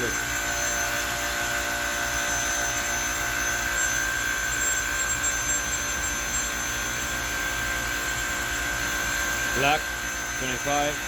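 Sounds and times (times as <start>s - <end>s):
chiller fans rushing: 0.0s - 11.0s
steady high whine: 0.0s - 11.0s.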